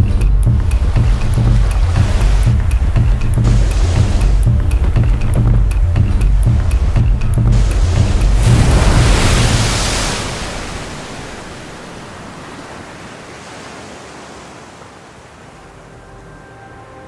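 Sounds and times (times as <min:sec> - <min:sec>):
sea surf washing on beach: 0:00.0 - 0:16.3.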